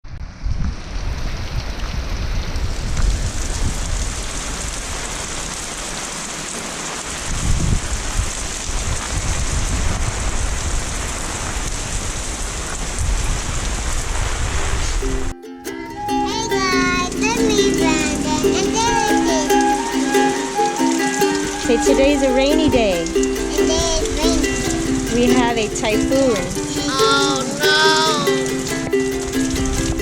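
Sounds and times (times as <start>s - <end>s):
heavy rain pouring: 0.1s - 30.0s.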